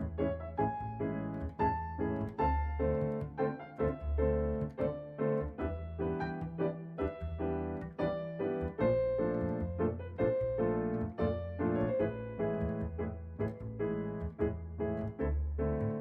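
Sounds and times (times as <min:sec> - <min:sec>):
piano over sustained bass: 0:00.0 - 0:16.0.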